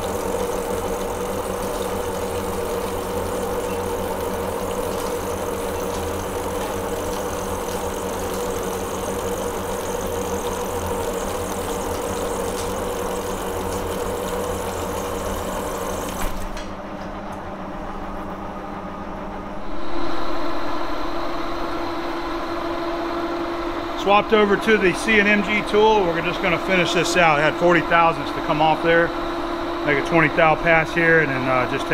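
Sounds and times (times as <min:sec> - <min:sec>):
lathe machine hum: 0:00.0 - 0:31.9.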